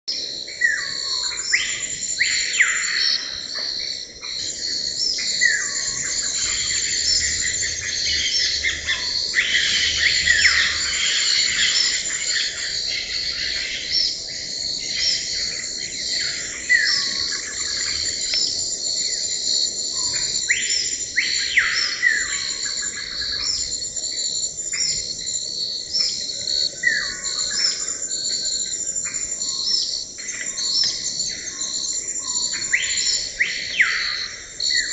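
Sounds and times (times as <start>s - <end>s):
insects droning with pulsing trill: 0.0s - 34.9s.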